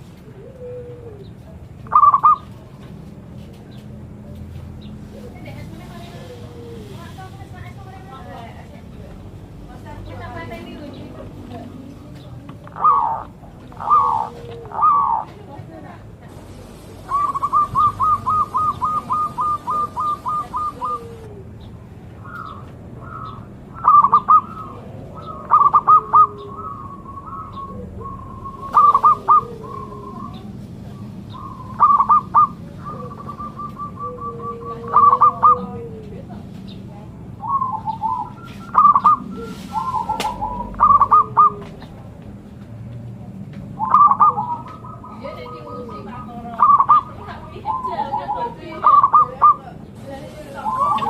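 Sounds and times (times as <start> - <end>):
dove cooing song: 0.0 - 4.2, 4.8 - 8.6, 9.7 - 42.3, 43.6 - 51.0.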